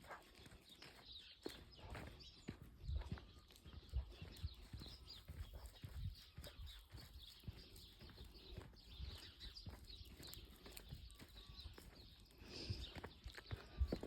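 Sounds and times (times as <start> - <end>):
footsteps outdoors: 0.0 - 14.0.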